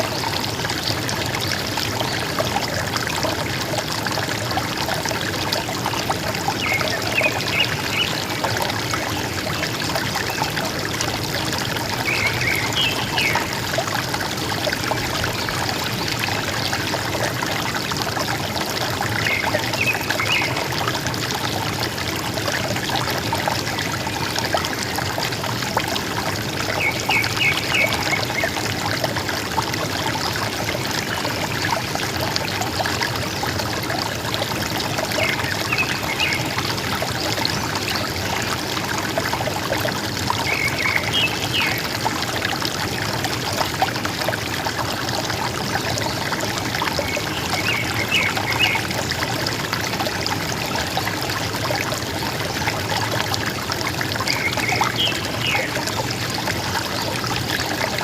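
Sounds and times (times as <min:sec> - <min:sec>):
river water gurgling: 0:00.0 - 0:58.0.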